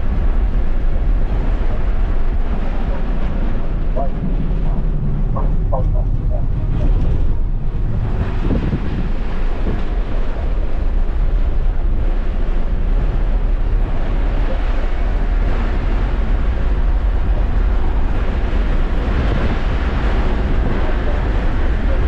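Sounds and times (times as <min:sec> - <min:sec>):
car cabin road and wind noise: 0:00.0 - 0:22.0.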